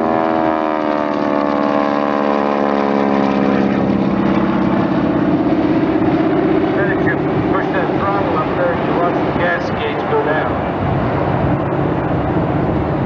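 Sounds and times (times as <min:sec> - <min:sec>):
propeller airplane engine: 0:00.0 - 0:13.0.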